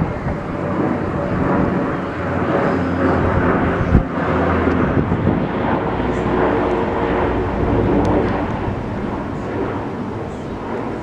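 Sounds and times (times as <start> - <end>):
airplane engines droning overhead: 0.0 - 11.0.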